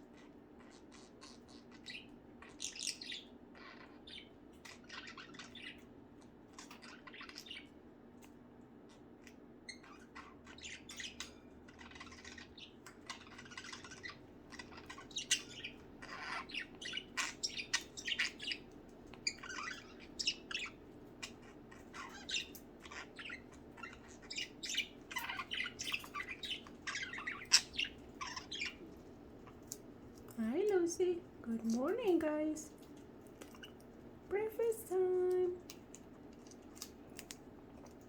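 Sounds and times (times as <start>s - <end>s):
budgerigars chirping and squawking: 0.0s - 7.8s, 8.9s - 30.8s, 33.4s - 35.7s
steady low hum: 0.0s - 38.0s.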